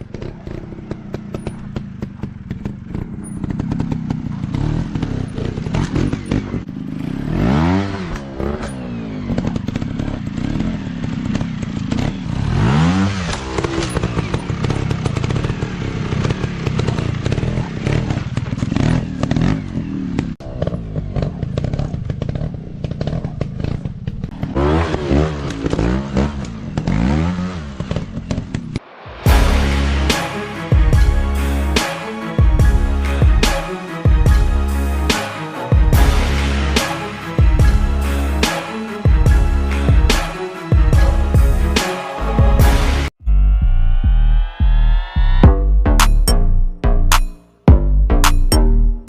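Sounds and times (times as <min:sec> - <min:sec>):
dirt bike engines revving: 0:00.0 - 0:43.1.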